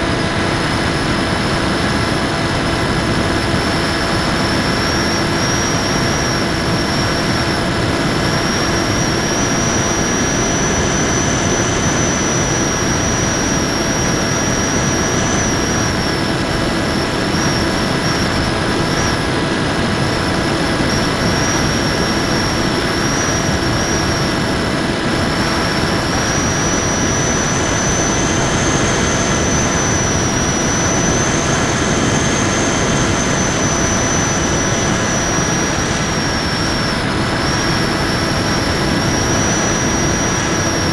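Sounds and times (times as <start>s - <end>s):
electric motor and propeller whining: 0.0s - 40.9s
heavy wind rush: 0.0s - 40.9s.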